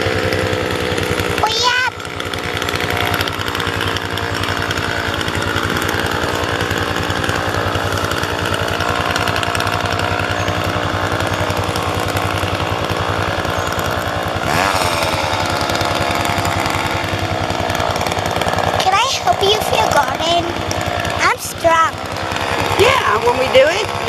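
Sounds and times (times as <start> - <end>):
chainsaw engine running: 0.0 - 24.0.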